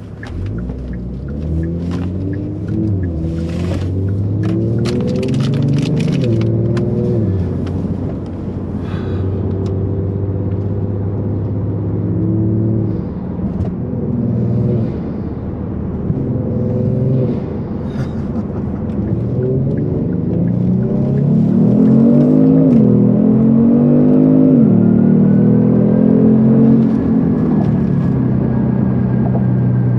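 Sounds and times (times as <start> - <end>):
car engine while driving: 0.0 - 29.9.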